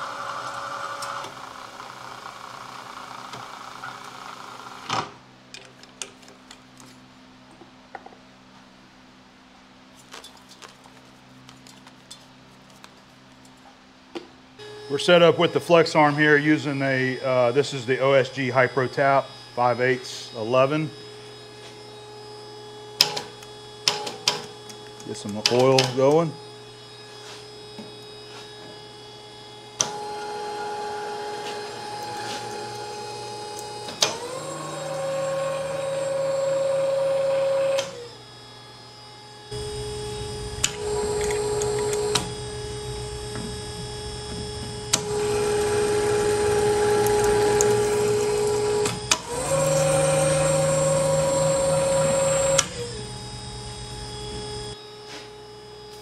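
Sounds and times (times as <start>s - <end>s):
tapping machine motor whine: 0.0s - 5.0s, 14.6s - 56.0s.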